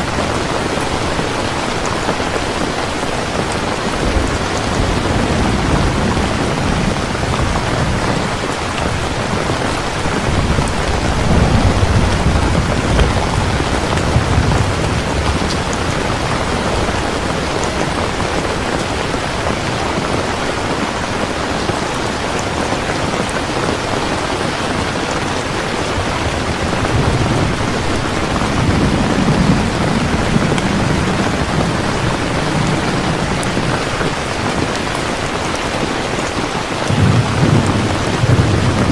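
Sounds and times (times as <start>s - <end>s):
thunder rumbling: 0.0s - 22.4s, 23.0s - 38.9s
heavy rain falling: 0.0s - 38.9s.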